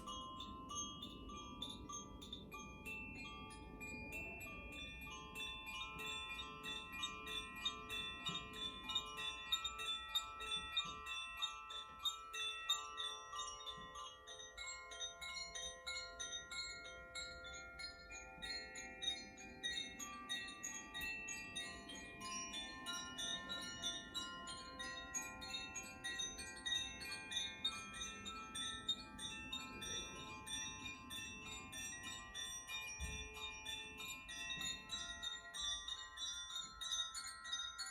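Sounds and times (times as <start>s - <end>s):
wind chimes tinkling: 0.0s - 37.9s.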